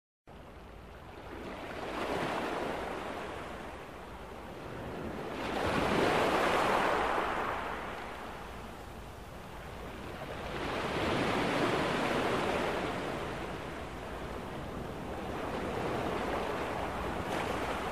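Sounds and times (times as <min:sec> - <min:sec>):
ocean waves washing: 0:00.6 - 0:17.9.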